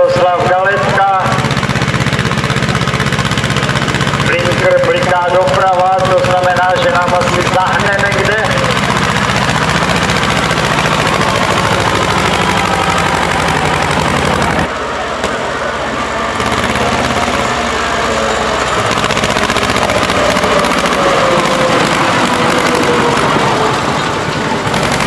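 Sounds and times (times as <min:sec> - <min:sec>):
tractor engines running: 0:00.0 - 0:25.0.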